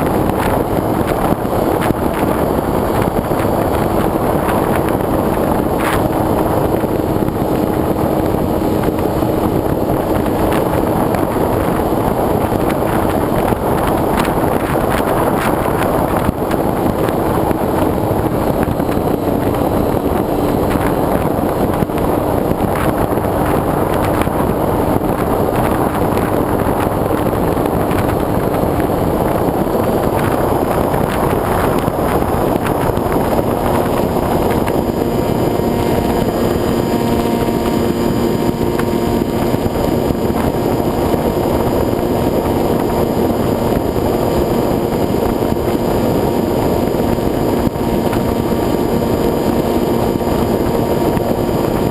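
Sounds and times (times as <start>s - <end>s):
model airplane motor humming: 0.0s - 51.9s
steady tones: 0.0s - 51.9s
wind rushing over camera: 0.0s - 51.9s.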